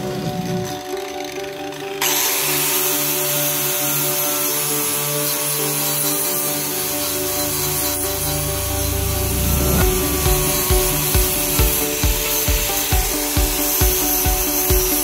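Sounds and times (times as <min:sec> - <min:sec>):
angle grinder grinding metal: 0:00.0 - 0:15.0.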